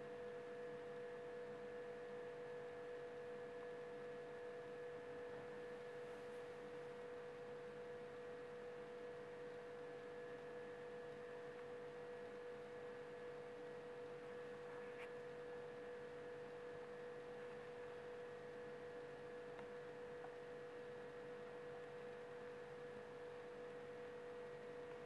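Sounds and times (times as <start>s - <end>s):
faint electronic hum: 0.0s - 25.0s.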